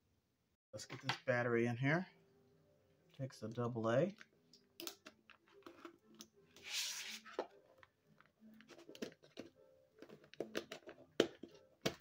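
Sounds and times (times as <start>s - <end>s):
faint background music: 0.7s - 12.0s.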